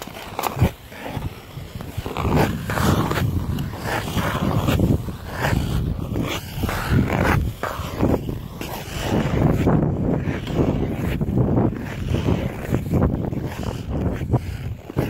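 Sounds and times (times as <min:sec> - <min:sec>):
ice skate blades scraping ice: 0:00.0 - 0:15.0.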